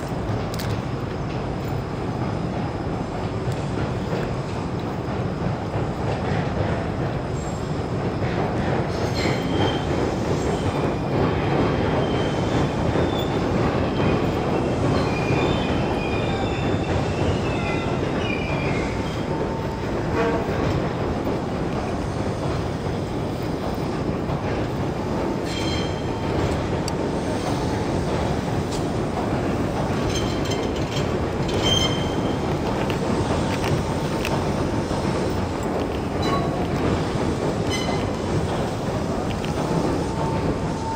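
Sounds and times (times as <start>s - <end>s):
city rumble: 0.0s - 40.9s.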